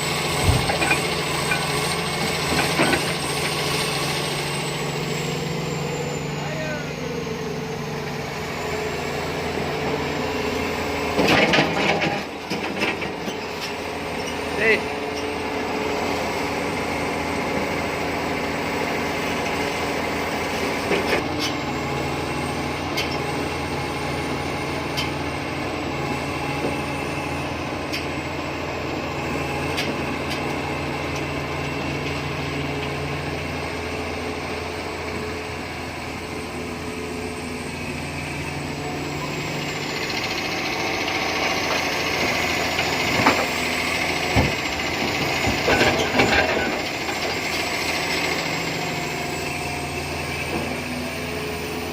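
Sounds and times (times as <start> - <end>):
heavy diesel engines running: 0.0 - 51.9.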